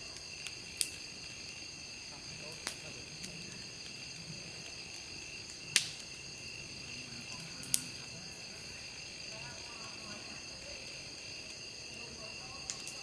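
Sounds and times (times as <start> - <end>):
campfire popping: 0.0 - 13.0
night insects chirping: 0.0 - 13.0.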